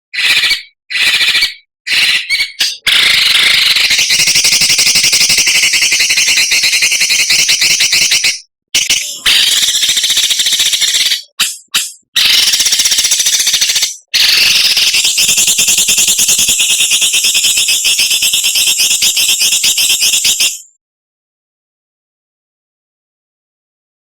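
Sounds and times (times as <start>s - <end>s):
rapid rattling bird calls: 0.2s - 20.7s.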